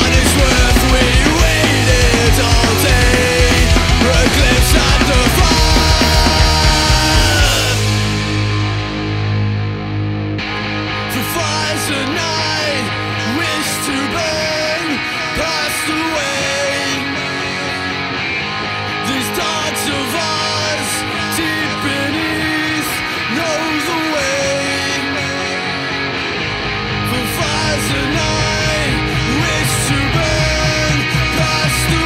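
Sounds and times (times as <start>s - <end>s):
fast punk rock band: 0.0s - 32.0s.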